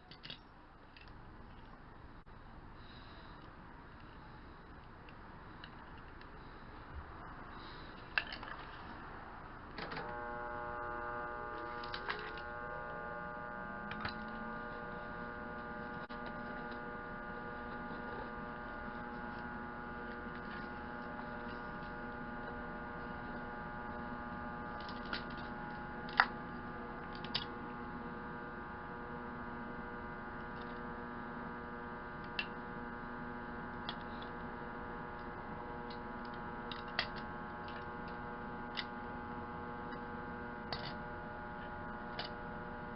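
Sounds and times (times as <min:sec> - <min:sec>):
electrical hum of machine: 0:00.0 - 0:42.9
motor spinning: 0:07.6 - 0:42.9.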